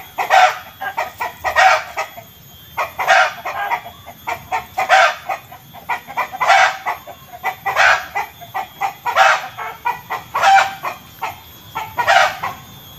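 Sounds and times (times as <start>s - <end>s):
chicken cackling: 0.0s - 12.9s.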